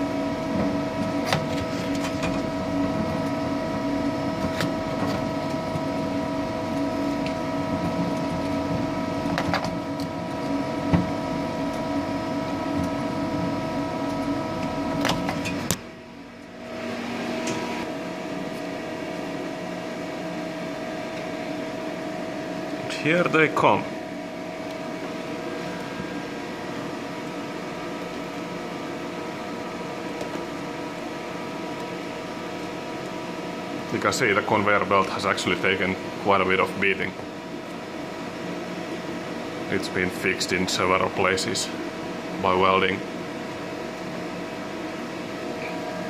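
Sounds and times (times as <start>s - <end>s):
conveyor motor hum: 0.0s - 46.0s.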